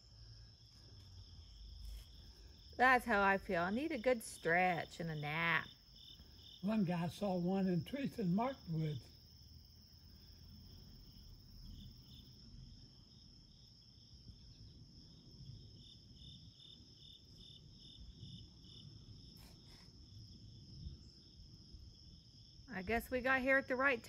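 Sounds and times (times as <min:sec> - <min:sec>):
crickets chirping: 0:00.0 - 0:24.0
insects droning: 0:00.0 - 0:24.0.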